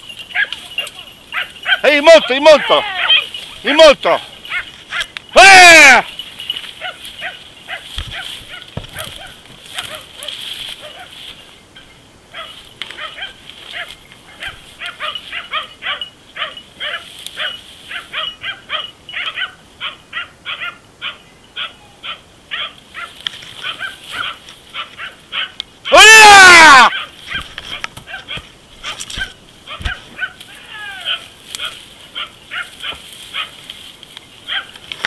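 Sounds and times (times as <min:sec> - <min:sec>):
dogs barking: 0:00.2 - 0:05.2, 0:06.6 - 0:11.2, 0:11.8 - 0:26.0, 0:26.9 - 0:33.7, 0:34.4 - 0:35.0.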